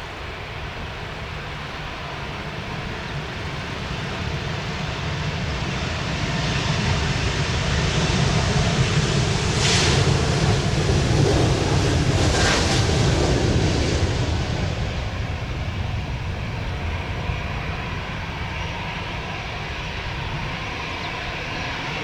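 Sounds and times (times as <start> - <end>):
jet engines roaring at takeoff: 0.0 - 22.0.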